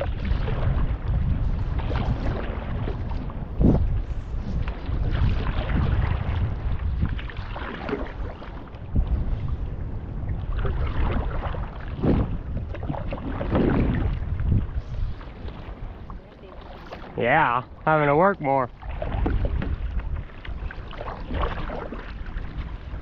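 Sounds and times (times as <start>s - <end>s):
paddle strokes splashing water: 0.0s - 23.0s
wind rumble on microphone: 0.0s - 23.0s.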